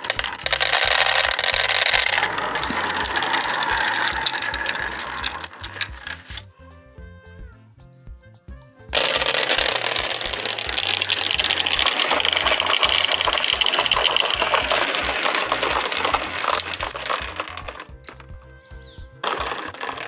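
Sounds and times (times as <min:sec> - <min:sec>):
marbles clattering down a marble run: 0:00.0 - 0:06.5, 0:09.0 - 0:20.0
background music with steady beat: 0:00.0 - 0:20.0.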